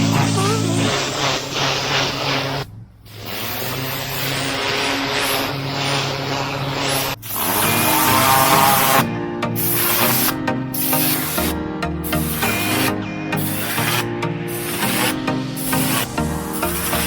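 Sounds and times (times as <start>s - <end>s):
pressure washer running: 0.0s - 17.0s
water jet hissing on brick: 0.0s - 17.0s.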